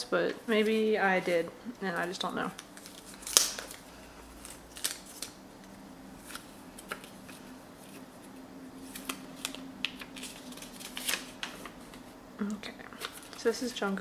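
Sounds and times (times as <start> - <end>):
paper and plastic rustling: 0.2 - 12.2, 12.9 - 14.0.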